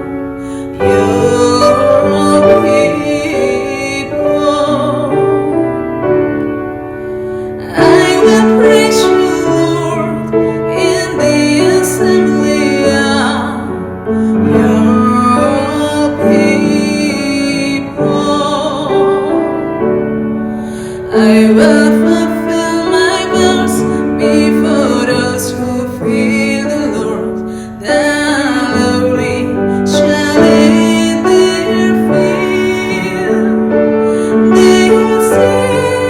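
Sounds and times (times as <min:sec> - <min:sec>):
woman singing a worship song: 0:00.0 - 0:05.8, 0:07.4 - 0:19.7, 0:20.7 - 0:36.0
instrumental accompaniment: 0:00.0 - 0:36.0.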